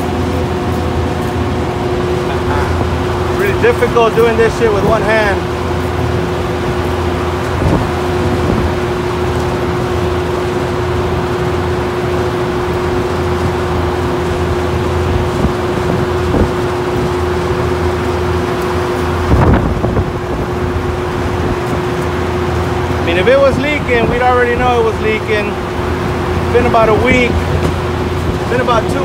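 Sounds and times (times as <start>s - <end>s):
condenser fans droning: 0.0s - 29.0s.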